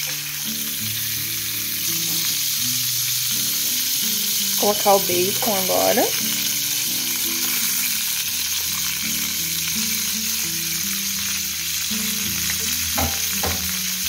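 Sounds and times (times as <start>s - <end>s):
bacon sizzling in a frying pan: 0.0s - 14.0s.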